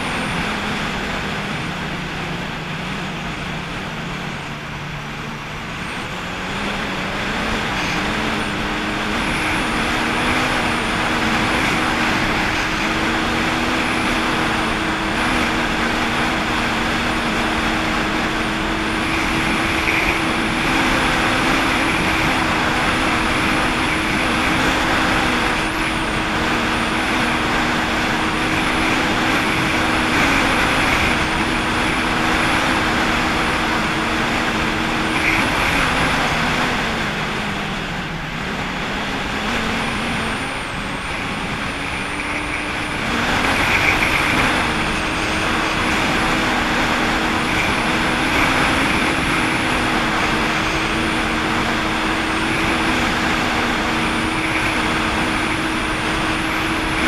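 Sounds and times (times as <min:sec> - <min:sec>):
jet ski engine running: 0:00.0 - 0:57.0.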